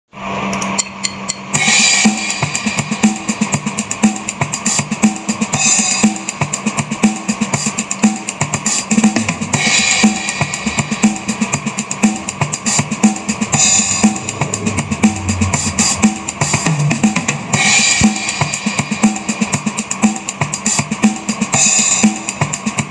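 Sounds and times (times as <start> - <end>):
cymbal wash: 0.4 - 22.9
drum-kit beat: 1.0 - 22.9.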